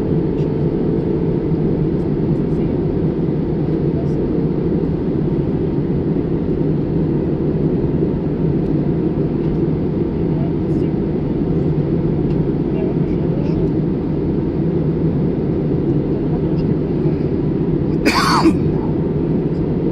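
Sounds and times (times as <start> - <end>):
jet airliner cabin noise: 0.0 - 19.9.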